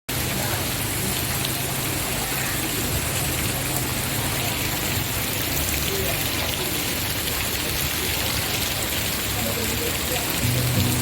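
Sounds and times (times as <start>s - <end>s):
raindrops ticking on hard surfaces: 0.1s - 11.0s
steady rain hiss: 0.1s - 11.0s.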